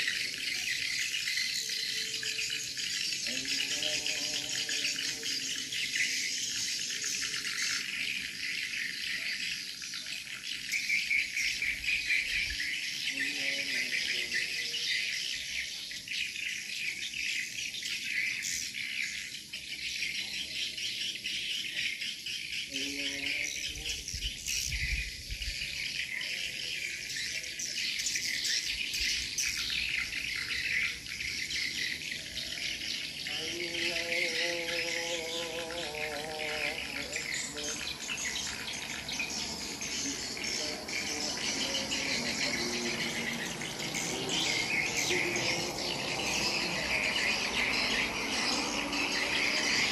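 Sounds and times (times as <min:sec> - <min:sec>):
lower tonal bird calls: 0:00.0 - 0:49.9.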